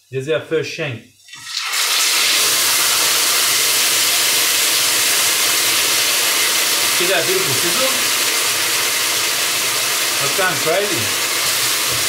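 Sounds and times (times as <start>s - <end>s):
meat sizzling in hot oil: 1.2s - 12.0s.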